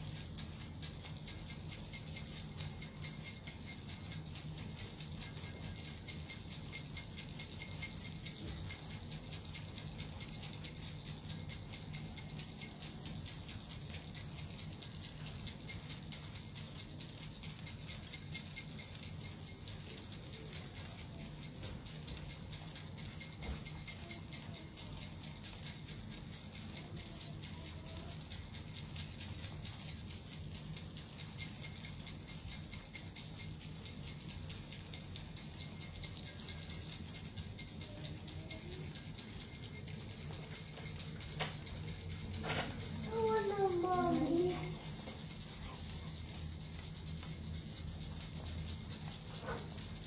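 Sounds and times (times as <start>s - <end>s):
small bells jingling: 0.0s - 50.0s.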